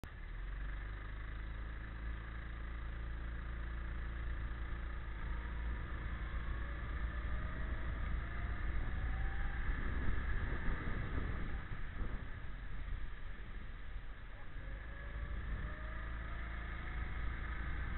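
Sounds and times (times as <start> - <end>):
go-kart engine running: 0.1 - 17.9.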